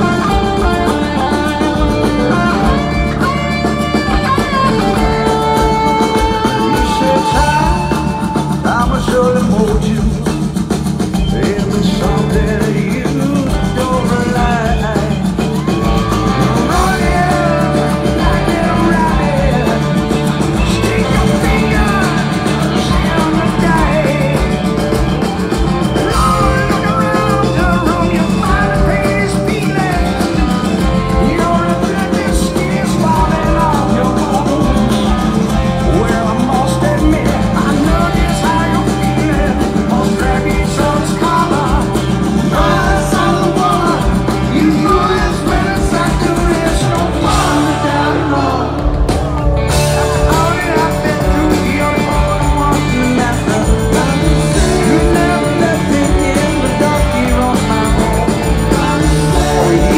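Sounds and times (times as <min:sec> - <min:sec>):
electric guitar lines: 0:00.0 - 0:59.9
live rock band playing: 0:00.0 - 0:59.9.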